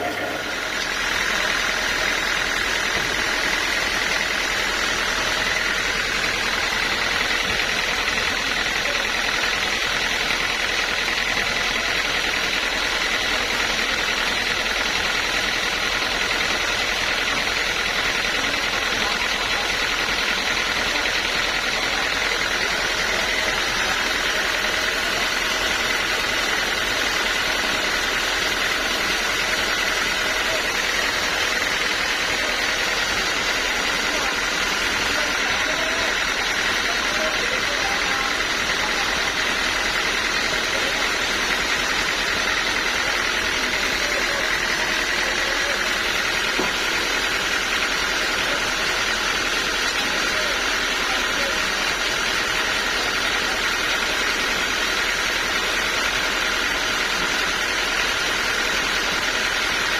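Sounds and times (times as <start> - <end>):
sawmill machinery whining: 0.0 - 59.9.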